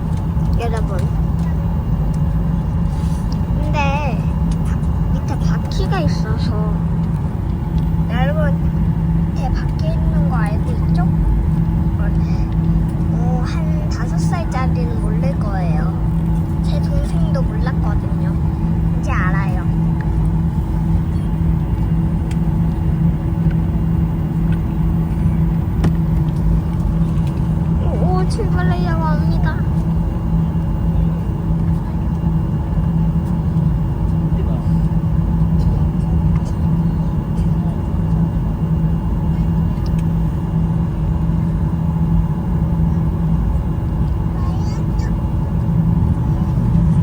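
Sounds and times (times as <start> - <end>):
airliner cabin rumble and hum: 0.0 - 47.0.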